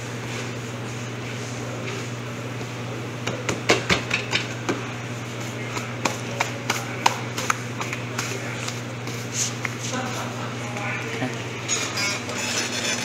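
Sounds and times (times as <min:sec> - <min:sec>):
low hum of kitchen equipment: 0:00.0 - 0:13.0.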